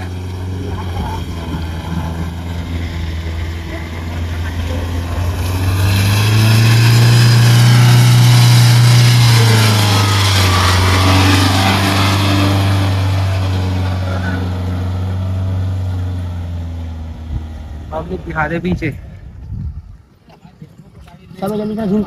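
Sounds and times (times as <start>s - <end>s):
car engine revving hard: 0.0s - 18.6s.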